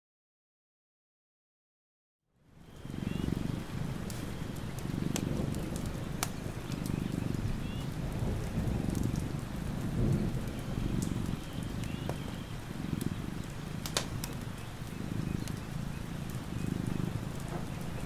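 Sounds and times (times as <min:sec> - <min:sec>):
steady rain: 0:02.4 - 0:18.0
cat purring: 0:02.6 - 0:18.0
sharp drip ticks: 0:02.8 - 0:18.0.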